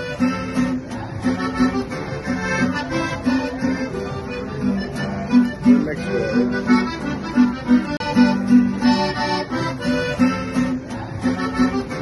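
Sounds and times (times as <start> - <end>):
accordion music: 0.0 - 12.0
plucked guitar: 0.0 - 12.0.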